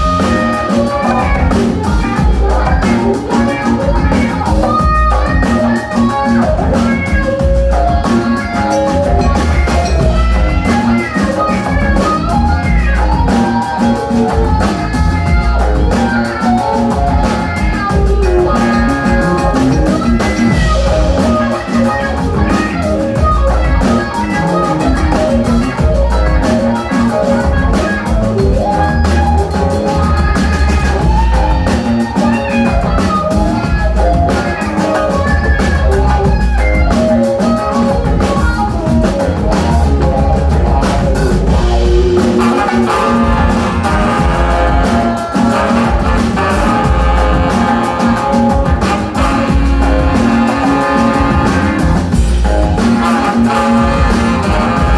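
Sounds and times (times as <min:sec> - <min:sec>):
drum kit groove: 0:00.0 - 0:54.9
live band playing: 0:00.0 - 0:54.9.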